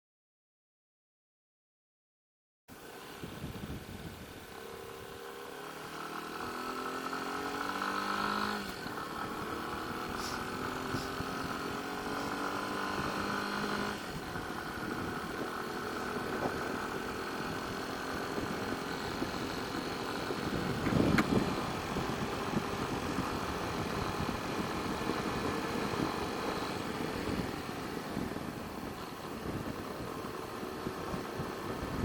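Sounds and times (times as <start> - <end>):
motorcycle engine accelerating: 2.7 - 32.0.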